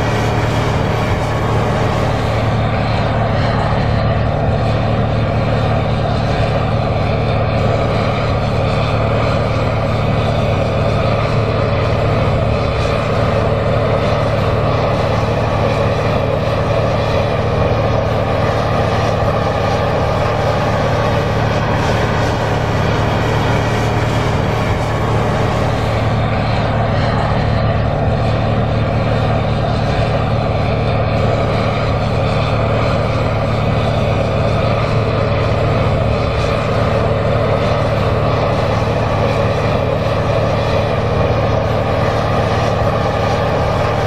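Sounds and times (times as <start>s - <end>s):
tractor diesel engine under load: 0.0s - 44.0s.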